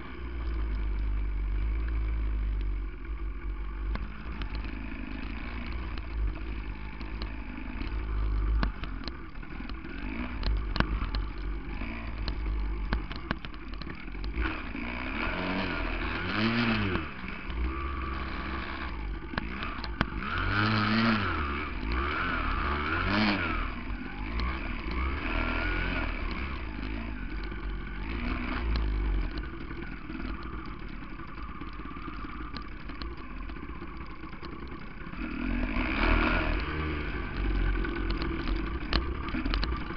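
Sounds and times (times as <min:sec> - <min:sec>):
two-stroke dirt bike engine revving: 0:00.0 - 0:39.9.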